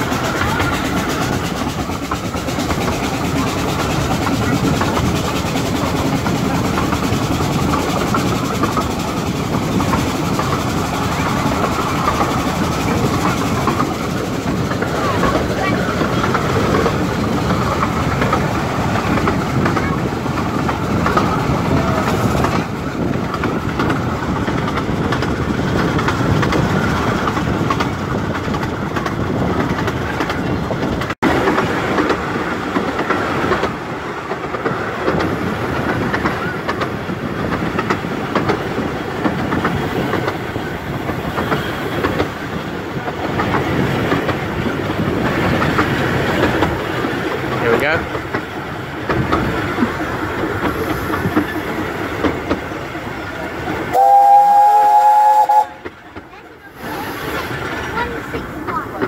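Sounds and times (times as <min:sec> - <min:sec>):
train rumbling: 0:00.0 - 0:59.0
wheels clickety-clack on rails: 0:00.0 - 0:59.0.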